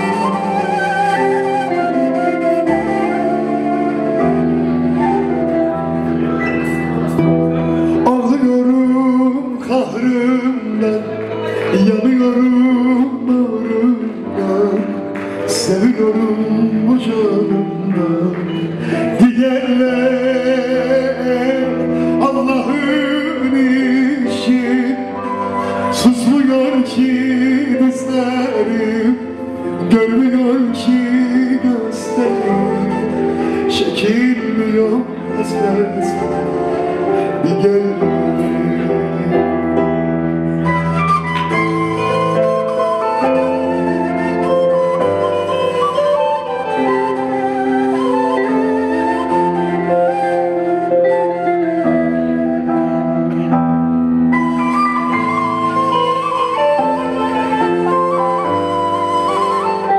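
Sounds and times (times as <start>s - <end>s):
man singing: 0.0s - 5.2s, 7.0s - 53.6s
flute melody: 0.0s - 59.9s
keyboard playing: 0.0s - 59.9s.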